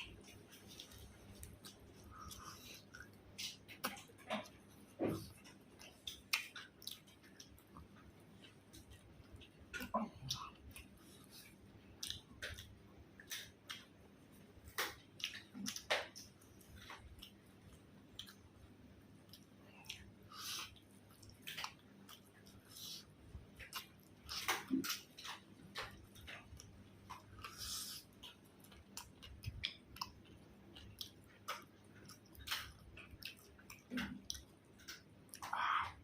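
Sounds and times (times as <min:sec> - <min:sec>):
mouth clicks and smacks: 0:00.0 - 0:18.5, 0:19.2 - 0:36.0
person chewing food: 0:00.0 - 0:36.0.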